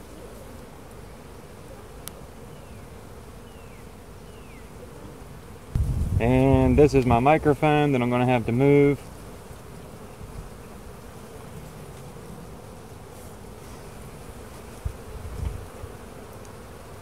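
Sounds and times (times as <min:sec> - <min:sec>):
bees humming: 0:00.0 - 0:17.0.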